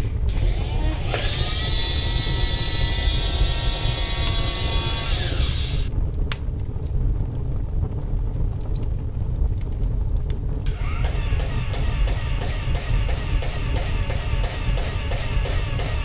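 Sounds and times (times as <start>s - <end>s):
fire rumbling: 0.0s - 16.0s.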